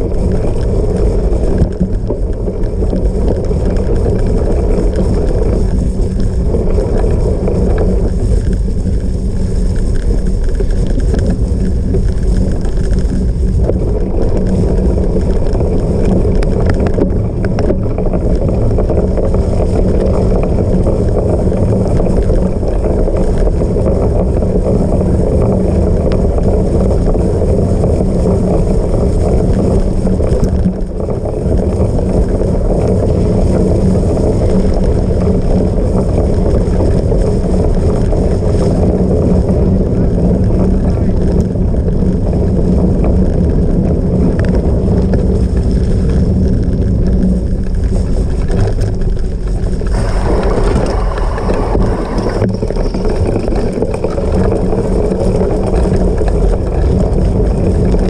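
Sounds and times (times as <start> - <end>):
bike rumbling over rough ground: 0.0 - 58.0
wind buffeting microphone: 0.0 - 58.0.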